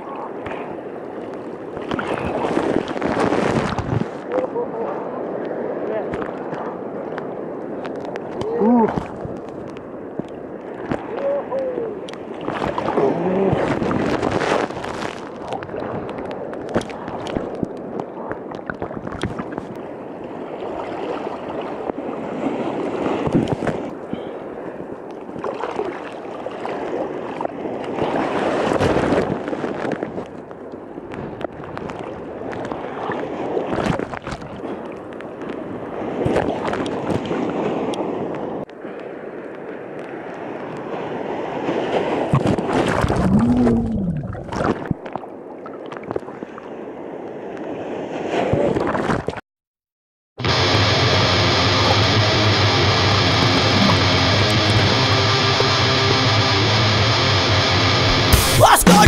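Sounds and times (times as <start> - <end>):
waves crashing and splashing: 0.0 - 49.4, 50.4 - 59.0.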